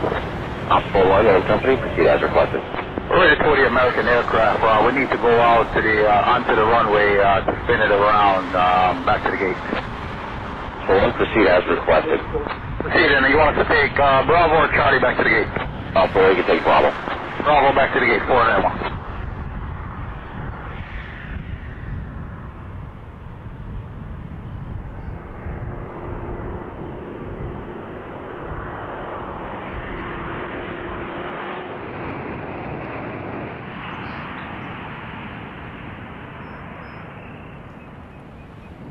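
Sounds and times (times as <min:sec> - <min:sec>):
jet engine rush: 0:00.0 - 0:38.9.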